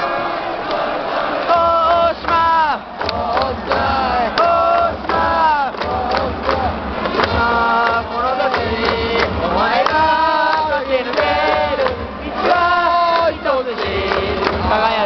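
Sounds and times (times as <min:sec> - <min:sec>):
crowd singing a cheering song: 0:00.0 - 0:15.0.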